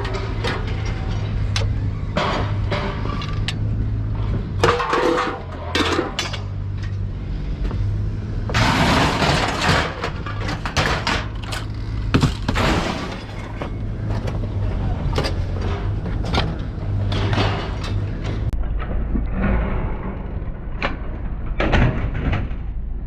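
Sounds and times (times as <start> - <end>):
rattling crash: 0.0 - 7.1, 7.9 - 22.8
scrap knocking and clattering: 0.0 - 18.6.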